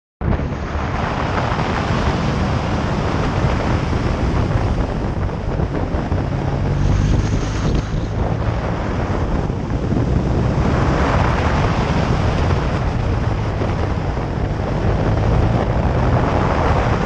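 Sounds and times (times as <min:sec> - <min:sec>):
motorcycle engine drone: 0:00.2 - 0:17.0
wind on microphone: 0:00.2 - 0:17.0.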